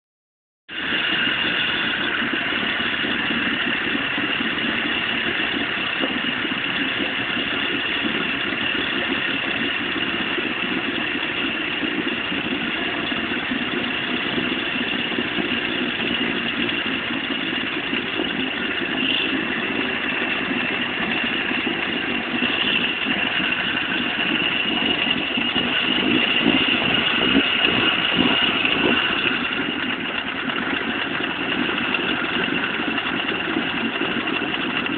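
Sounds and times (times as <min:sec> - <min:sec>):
outboard motor running: 0:00.7 - 0:34.9.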